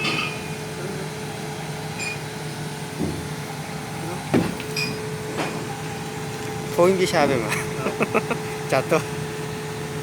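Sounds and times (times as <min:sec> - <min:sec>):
machine humming: 0:00.6 - 0:10.0.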